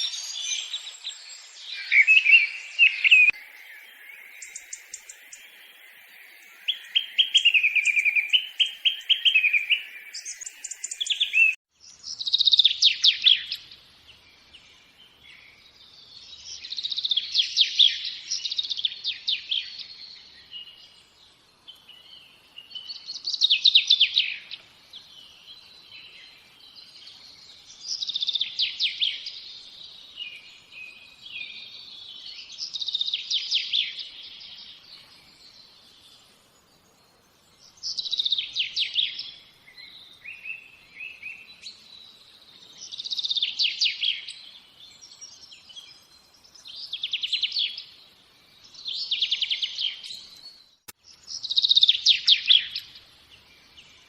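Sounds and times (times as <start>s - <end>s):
soft bird chirping: 0.0s - 54.0s
songbird singing: 0.0s - 54.0s.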